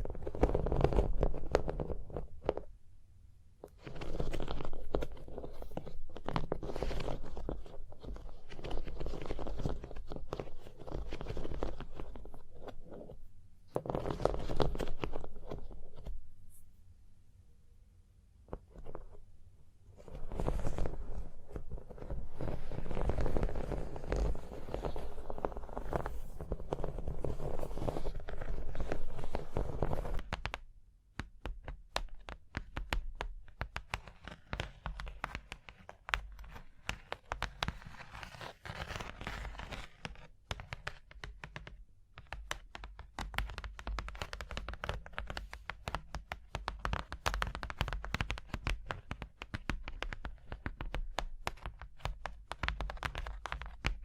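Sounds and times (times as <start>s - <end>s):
continuous scratching: 0.0s - 2.7s, 3.6s - 16.7s, 18.4s - 54.0s.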